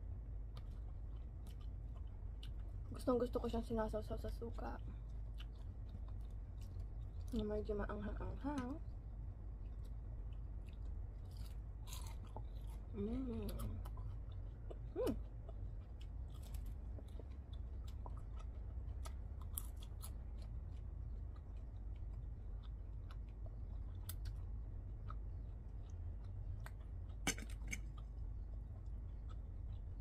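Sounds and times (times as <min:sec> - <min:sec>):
low hum: 0:00.0 - 0:30.0
crunchy chewing: 0:00.3 - 0:03.0, 0:04.8 - 0:07.7, 0:08.8 - 0:30.0.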